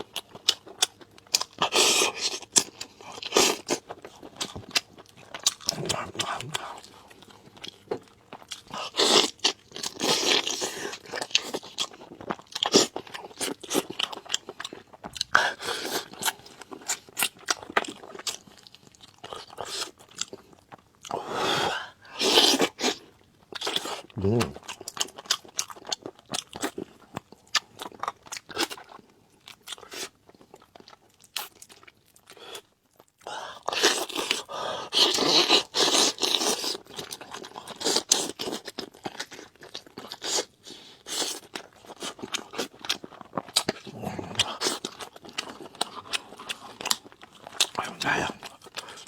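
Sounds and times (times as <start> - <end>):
crunching and chewing: 0.0 - 49.0.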